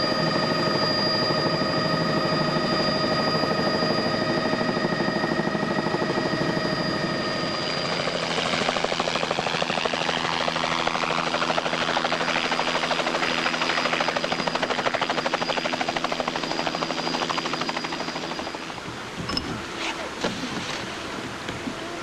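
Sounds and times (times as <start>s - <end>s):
helicopter rotor beat: 0.0s - 22.0s.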